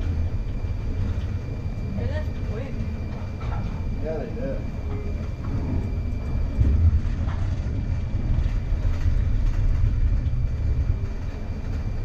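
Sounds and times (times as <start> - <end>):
streetcar rumbling on track: 0.0 - 12.0.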